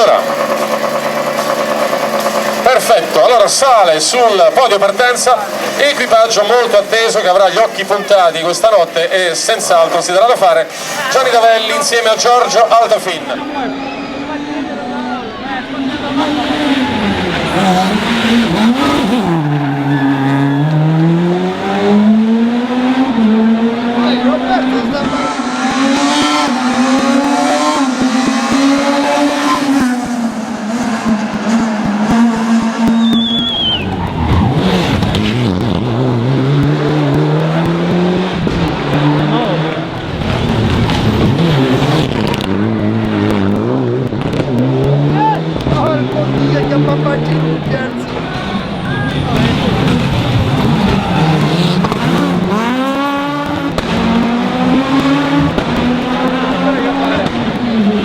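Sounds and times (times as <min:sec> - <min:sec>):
rally car engine at raised revs: 0:00.0 - 0:58.0
sharp exhaust crackles: 0:00.0 - 0:58.0.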